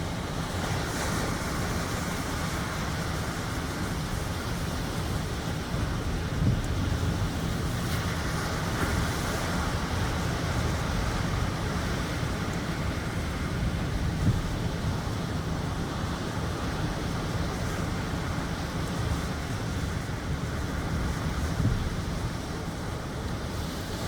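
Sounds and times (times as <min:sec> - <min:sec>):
waves washing in: 0:00.0 - 0:24.0
wind buffeting microphone: 0:00.0 - 0:24.0.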